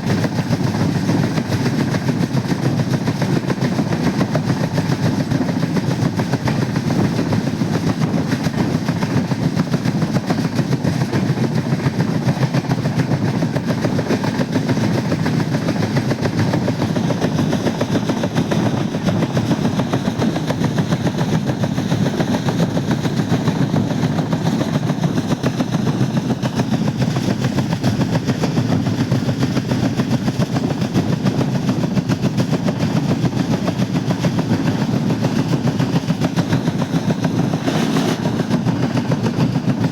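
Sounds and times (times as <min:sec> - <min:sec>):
train rumble: 0:00.0 - 0:39.9
train wheels rattling clatter: 0:00.0 - 0:39.9.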